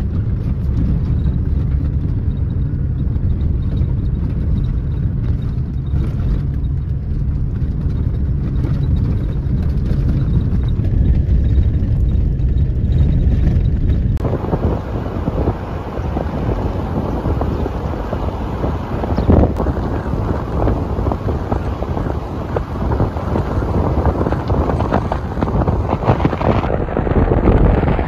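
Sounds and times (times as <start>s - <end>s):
car rumbling over gravel: 0.0s - 28.0s
wind rushing over microphone: 0.0s - 28.0s.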